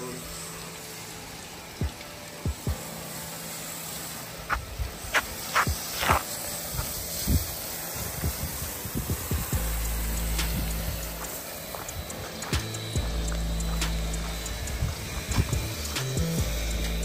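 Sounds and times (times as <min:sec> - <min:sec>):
water hissing from hose nozzle: 0:00.0 - 0:17.0.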